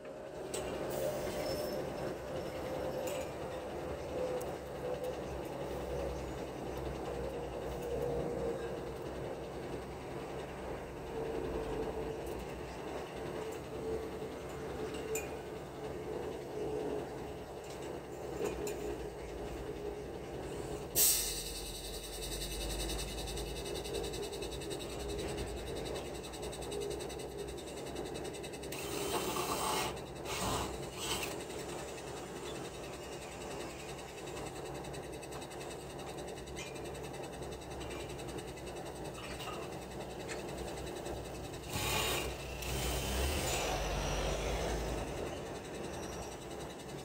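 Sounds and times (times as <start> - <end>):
construction site hum: 0.0 - 47.0.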